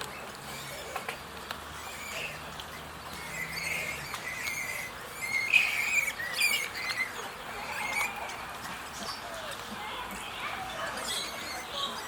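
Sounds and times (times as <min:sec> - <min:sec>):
piglets squeaking and squealing: 0:00.0 - 0:09.4, 0:10.5 - 0:12.0.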